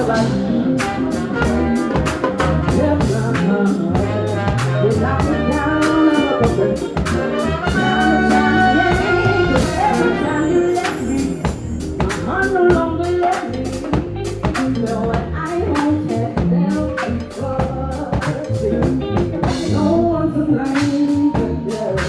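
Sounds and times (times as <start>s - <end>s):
drum kit beat: 0.0s - 20.1s, 20.7s - 22.0s
live band with horns: 0.0s - 22.0s.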